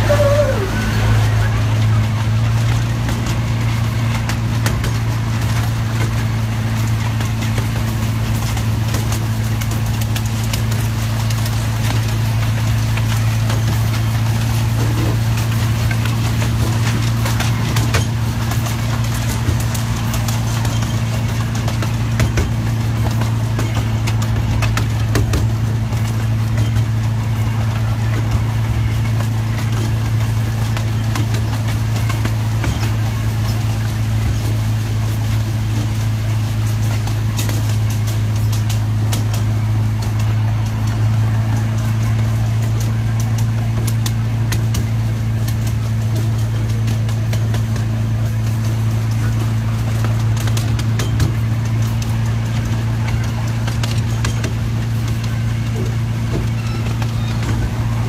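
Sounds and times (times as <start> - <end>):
miniature locomotive droning: 0.0 - 58.0
train clicks and rattles: 0.0 - 58.0.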